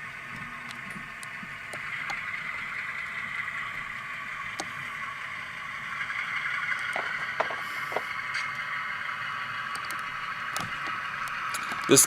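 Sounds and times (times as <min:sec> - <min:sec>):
diesel engine sound from tinny speaker: 0:00.0 - 0:12.0.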